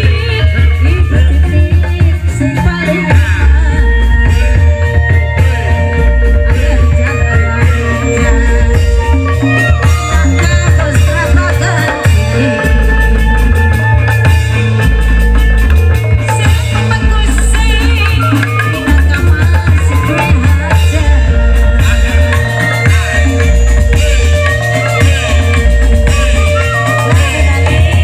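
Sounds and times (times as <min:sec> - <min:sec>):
deep bass notes: 0:00.0 - 0:28.0
drums: 0:00.0 - 0:28.0
wavering melody: 0:00.0 - 0:28.0.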